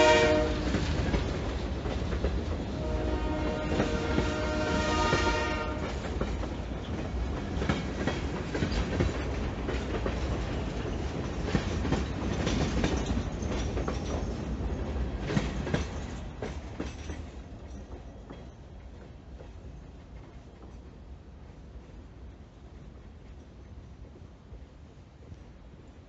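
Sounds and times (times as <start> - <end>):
train wheels clacking on rails: 0.0 - 25.8
low train rumble: 0.0 - 26.0.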